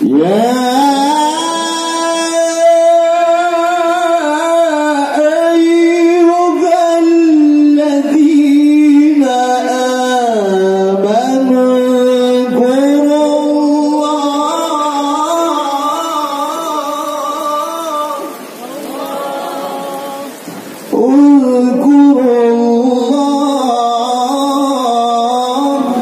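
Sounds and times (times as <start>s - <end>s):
man reciting melodically: 0.0s - 26.0s.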